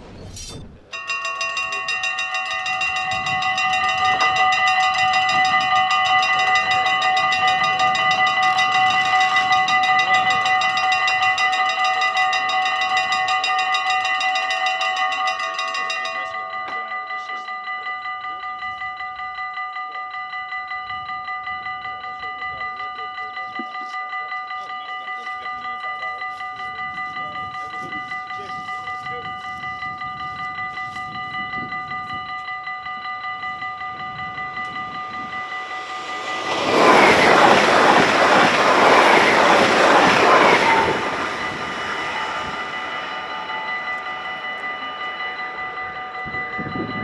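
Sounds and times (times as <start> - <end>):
level-crossing warning bells ringing: 0.8 - 47.0.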